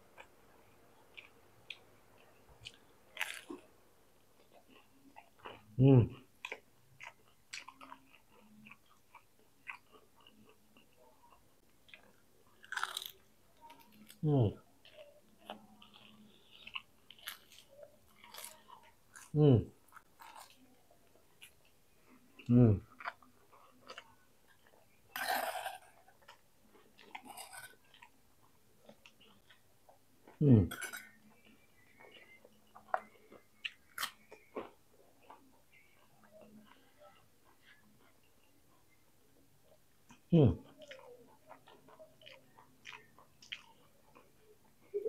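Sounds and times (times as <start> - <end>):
faint chewing crunches: 0.0 - 45.0.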